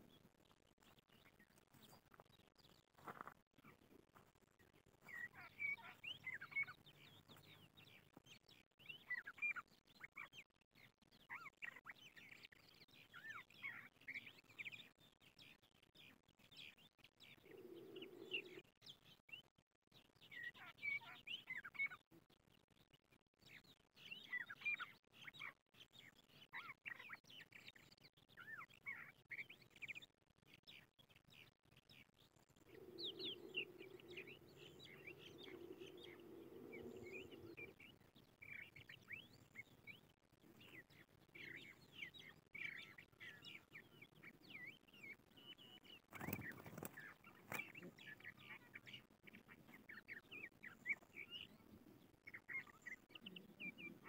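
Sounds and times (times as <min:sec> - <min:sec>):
lark twittering song: 0:04.6 - 0:19.4, 0:20.0 - 0:22.0, 0:22.8 - 0:54.0.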